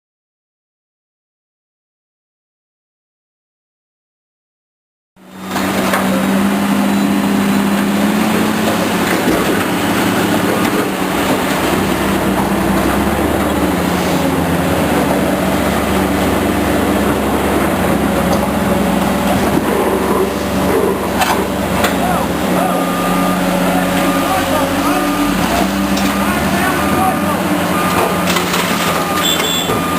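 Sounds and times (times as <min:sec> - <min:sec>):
construction machinery engines: 0:05.2 - 0:29.9.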